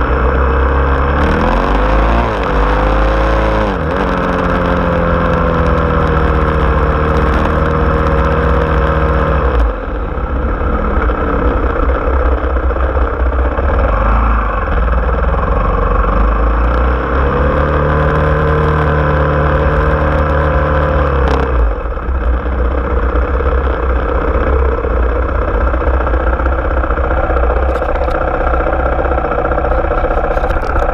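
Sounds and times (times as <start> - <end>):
small vehicle engine running: 0.0 - 30.9.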